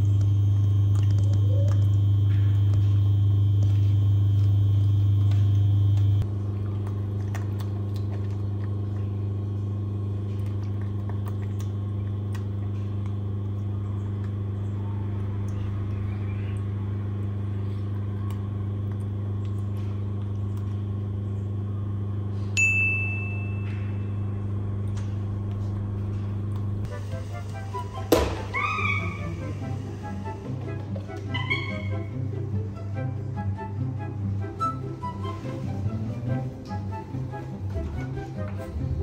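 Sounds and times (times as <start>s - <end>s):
electrical hum: 0.0s - 39.0s.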